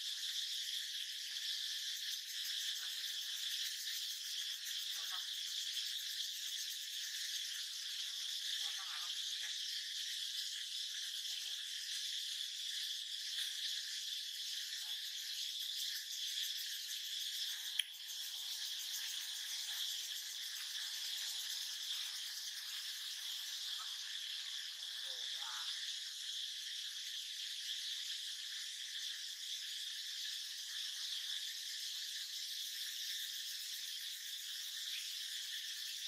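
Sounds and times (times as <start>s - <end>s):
insect chorus: 0.0s - 36.0s.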